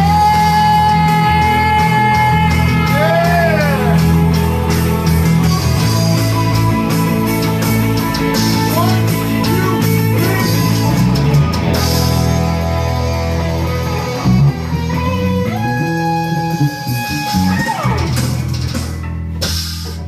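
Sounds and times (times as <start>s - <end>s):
drums: 0.0s - 20.0s
held guitar notes ringing: 0.0s - 20.0s
live rock band playing: 0.0s - 20.0s.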